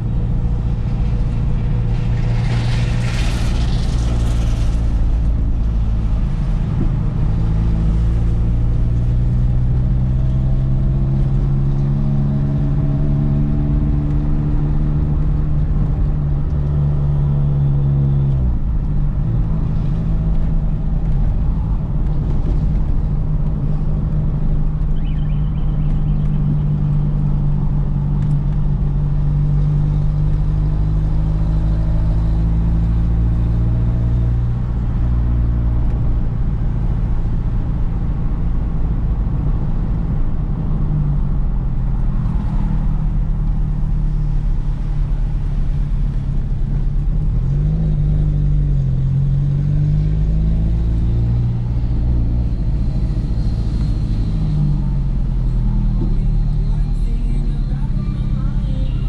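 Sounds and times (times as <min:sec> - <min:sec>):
car engine drone inside cabin: 0:00.0 - 0:59.0.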